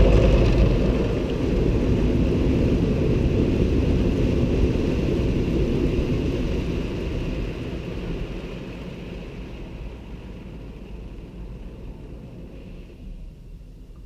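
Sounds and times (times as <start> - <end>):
car wash equipment roaring: 0.0 - 14.0.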